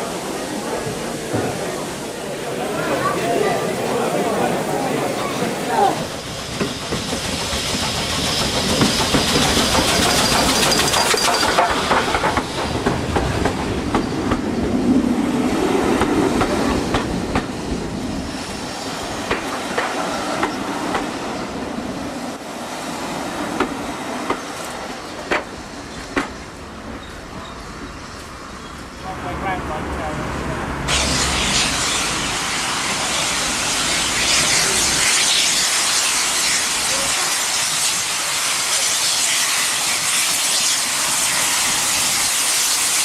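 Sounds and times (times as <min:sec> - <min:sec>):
steam train hissing: 0:00.0 - 0:43.0
train carriages rumbling: 0:00.0 - 0:43.0.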